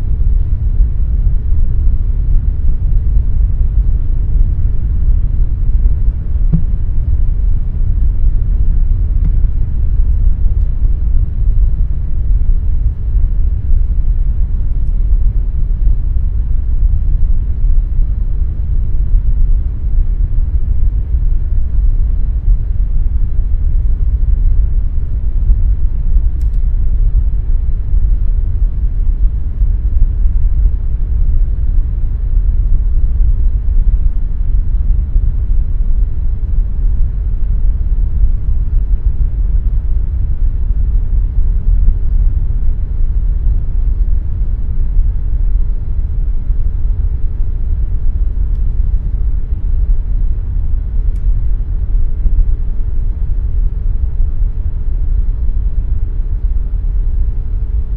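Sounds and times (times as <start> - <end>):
air conditioner running: 0.0 - 57.9.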